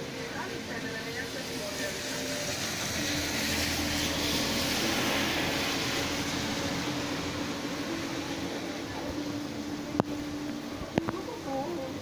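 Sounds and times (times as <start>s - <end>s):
rain on wet street: 0.0s - 12.0s.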